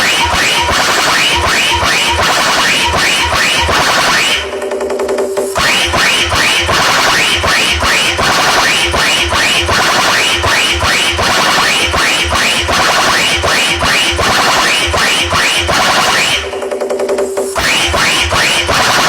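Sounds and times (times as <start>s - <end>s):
electronic dance music: 0.0s - 19.0s
heavy kick drum beat: 0.0s - 19.0s
upward sweeping chopped sample: 0.0s - 19.0s.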